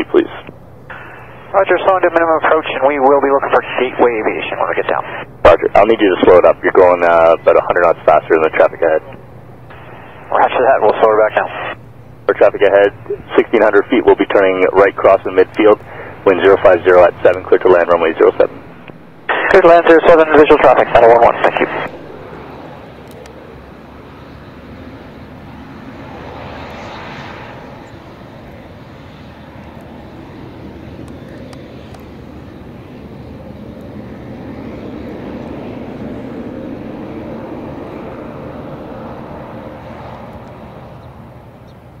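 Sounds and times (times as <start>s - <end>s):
turboprop engines droning: 0.0s - 42.0s.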